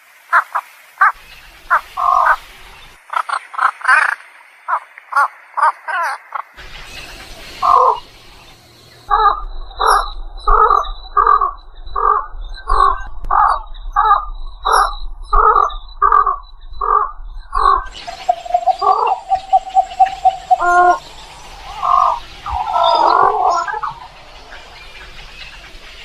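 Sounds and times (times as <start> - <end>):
bird calling loudly: 0.3 - 2.5, 3.1 - 26.0.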